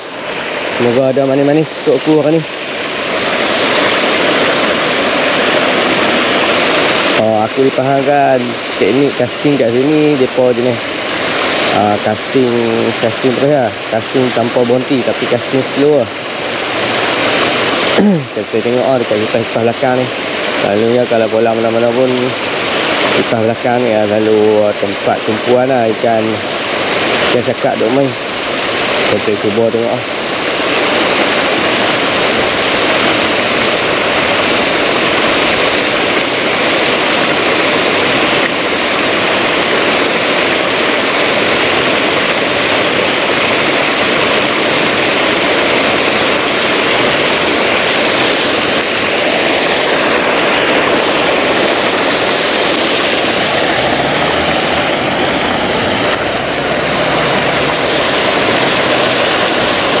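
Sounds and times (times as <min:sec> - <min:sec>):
paddlewheel churning water: 0:00.0 - 1:00.0.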